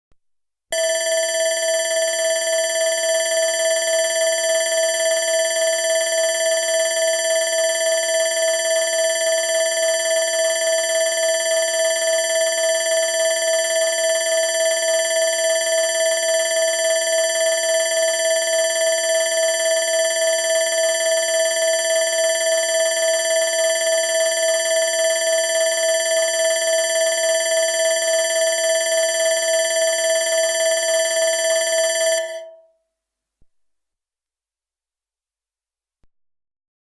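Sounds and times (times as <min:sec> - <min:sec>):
electronic alarm bell ringing: 0:00.7 - 0:32.7.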